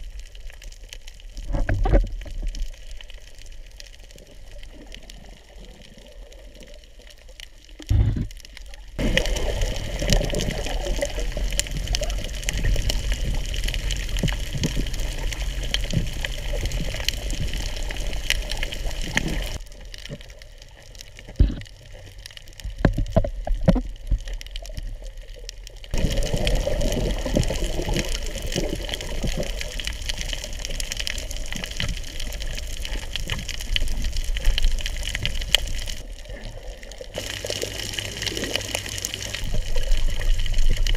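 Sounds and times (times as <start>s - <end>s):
water rushing and swishing: 0.0s - 40.9s.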